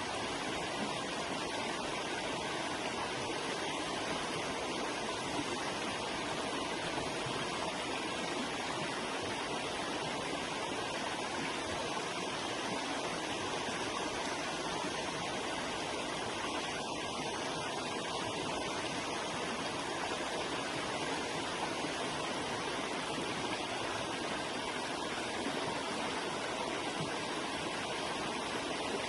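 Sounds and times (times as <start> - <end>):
river water rushing over rocks: 0.0 - 29.0.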